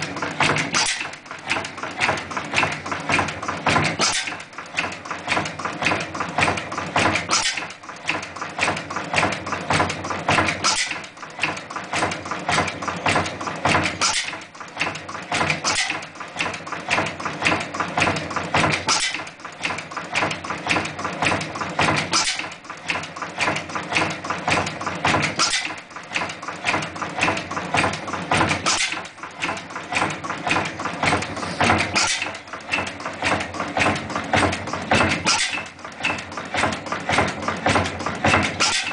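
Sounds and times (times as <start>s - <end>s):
oil engine clattering: 0.0s - 38.9s.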